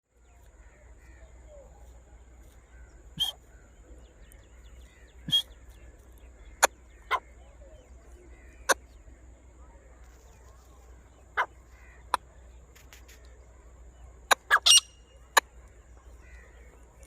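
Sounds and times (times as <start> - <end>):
faint bird chirps: 0.1 - 17.0.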